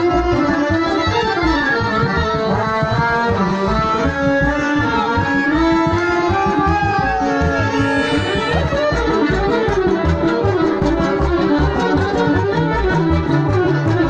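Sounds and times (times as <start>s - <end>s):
accordion: 0.0s - 14.0s
violin melody: 0.0s - 14.0s
steady low beat: 2.1s - 14.0s.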